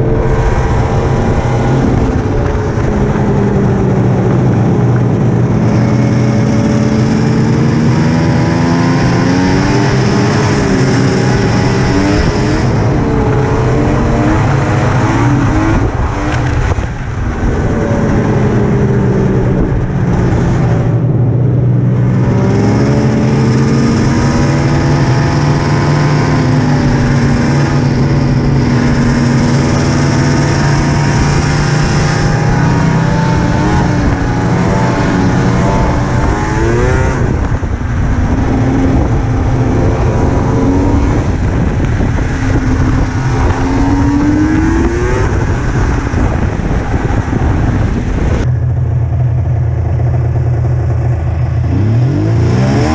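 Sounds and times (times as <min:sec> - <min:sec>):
snowmobile engine running: 0:00.0 - 0:52.9.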